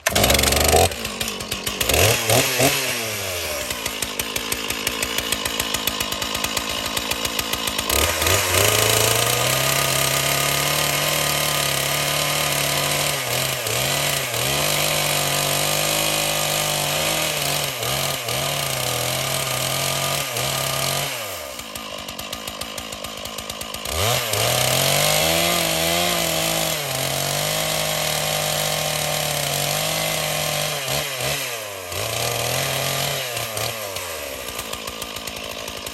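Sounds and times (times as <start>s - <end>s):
chainsaw cutting branches: 0.0s - 35.9s.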